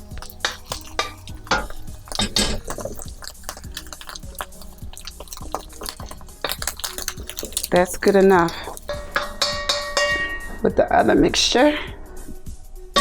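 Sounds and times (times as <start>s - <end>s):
utensil scraping a pan: 0.0s - 10.5s.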